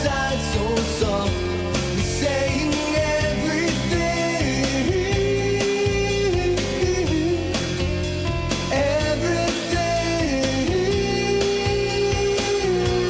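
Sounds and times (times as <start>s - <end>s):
band playing with steady beat: 0.0s - 13.0s.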